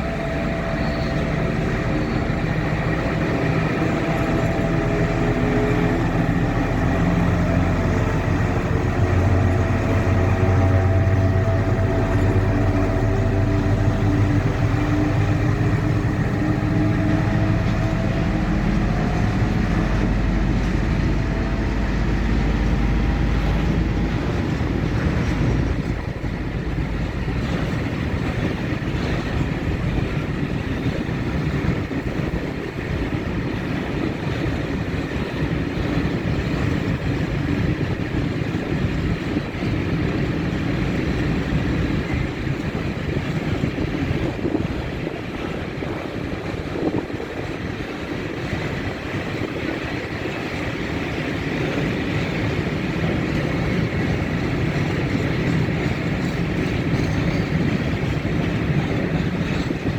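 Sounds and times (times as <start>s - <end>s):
diesel locomotive engine under load: 0.0s - 59.9s
freight wagons rumbling on rails: 0.0s - 59.9s.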